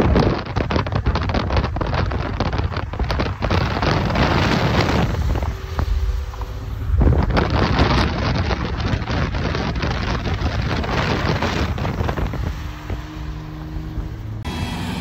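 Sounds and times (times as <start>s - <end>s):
wind buffeting microphone: 0.0s - 14.5s
road and tyre noise: 0.0s - 15.0s.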